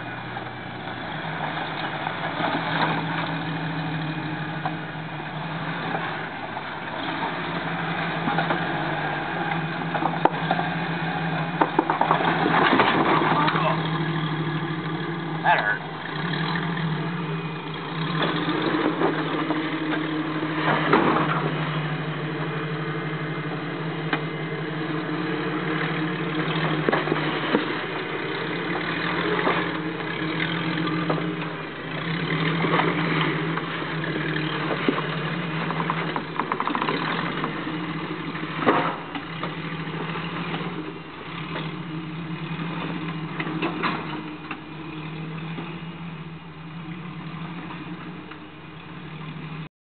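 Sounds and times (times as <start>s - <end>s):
engine running at low revs: 0.0s - 49.7s.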